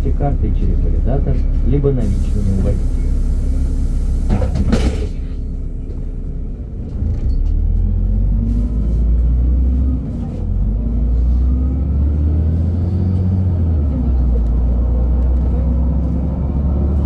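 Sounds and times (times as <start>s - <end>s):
bus engine accelerating: 0.0s - 17.0s.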